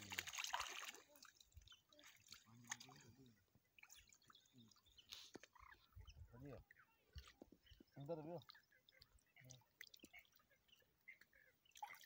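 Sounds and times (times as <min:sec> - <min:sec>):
water splashing and dripping: 0:00.0 - 0:05.6, 0:06.4 - 0:12.0.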